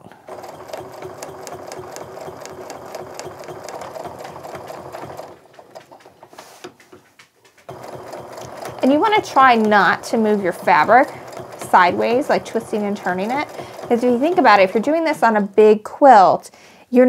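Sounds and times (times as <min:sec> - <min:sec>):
sewing machine stitching: 0:00.0 - 0:06.7, 0:07.7 - 0:15.5.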